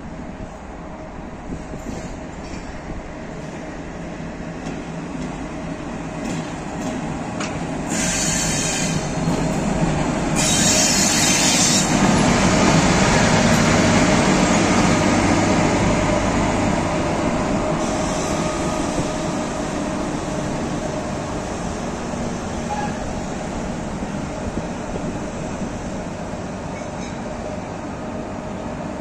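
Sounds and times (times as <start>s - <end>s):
train wheels rumbling: 0.3s - 29.0s.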